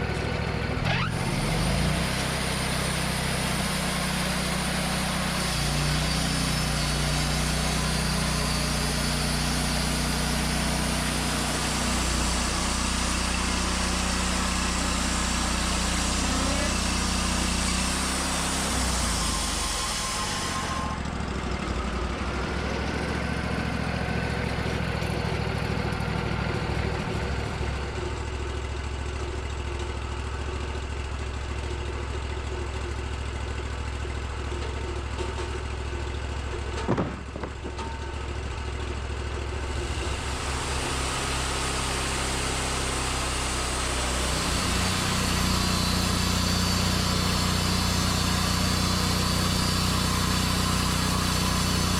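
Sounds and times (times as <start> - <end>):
sawmill engine running: 0.0 - 51.9.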